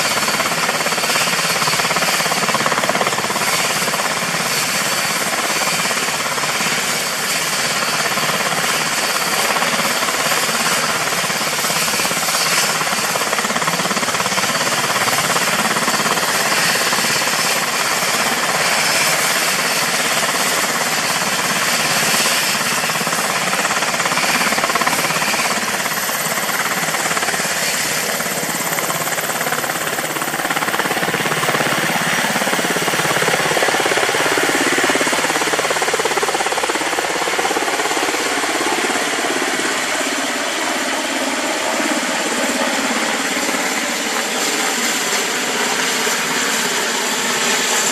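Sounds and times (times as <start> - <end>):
helicopter rotor chop: 0.0 - 47.9
turbine engine high whine: 0.0 - 47.9.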